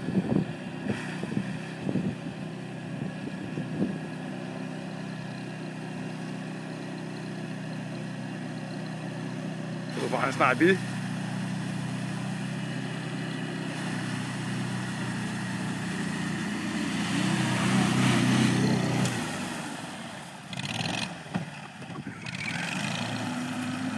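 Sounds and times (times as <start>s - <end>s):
atv engine running: 0.0s - 23.9s.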